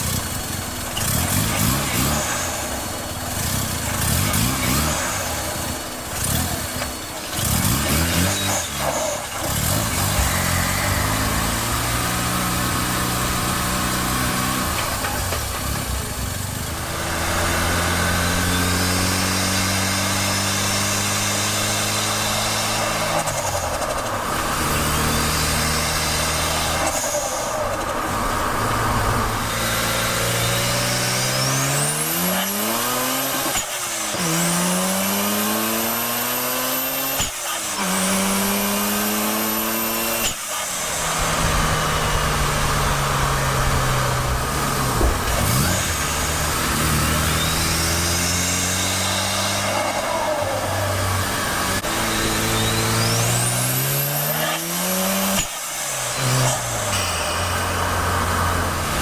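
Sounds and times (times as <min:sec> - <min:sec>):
rotary engine idling and revving: 0:00.0 - 0:59.0.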